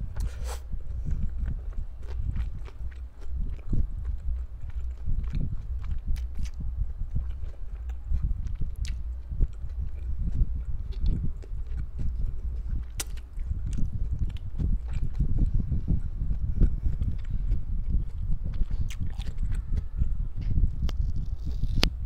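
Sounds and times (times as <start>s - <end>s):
chewing with mouth closed: 0.2s - 22.0s.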